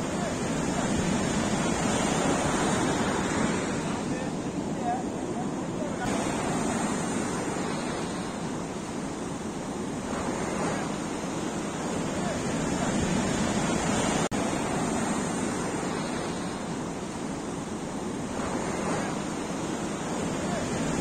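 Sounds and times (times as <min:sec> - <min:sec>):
surf breaking on beach: 0:00.0 - 0:21.0.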